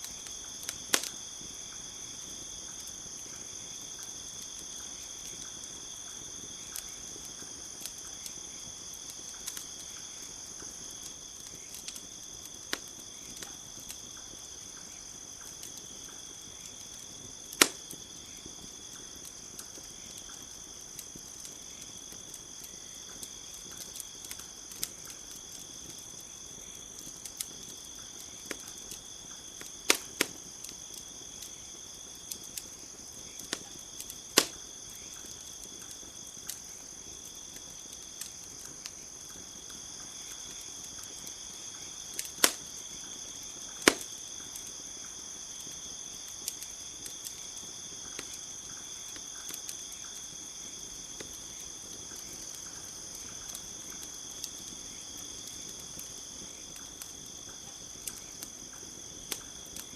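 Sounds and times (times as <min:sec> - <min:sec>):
campfire crackling: 0:00.0 - 0:59.9
crickets chirping: 0:00.0 - 0:59.9
sharp fire pops: 0:00.0 - 0:59.9.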